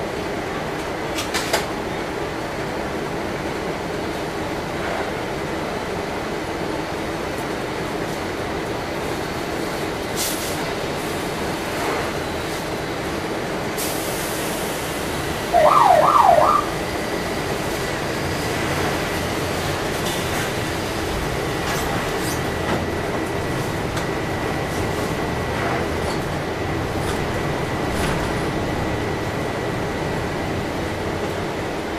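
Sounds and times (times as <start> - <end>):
bus running on wet streets: 0.0 - 31.9.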